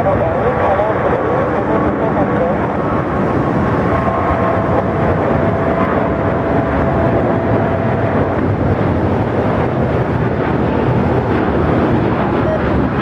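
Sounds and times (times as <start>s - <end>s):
jet engines running with whine: 0.0s - 13.0s.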